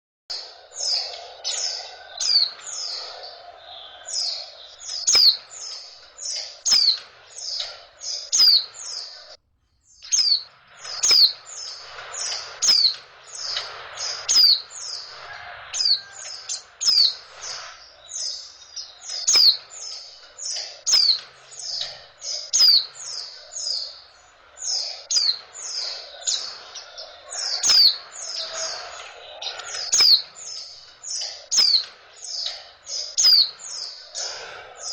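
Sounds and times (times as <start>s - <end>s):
bird high chirps sliding down: 0.3s - 9.3s, 9.9s - 34.9s.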